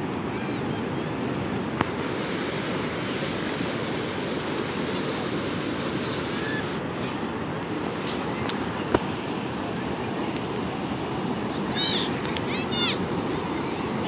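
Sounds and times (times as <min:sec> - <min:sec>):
sea waves breaking on shore: 0:01.2 - 0:14.0.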